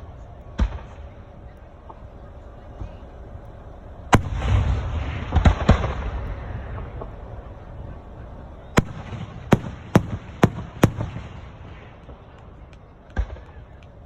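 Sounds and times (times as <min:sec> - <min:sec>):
fireworks bangs with echo: 0:00.4 - 0:02.0, 0:04.1 - 0:14.0.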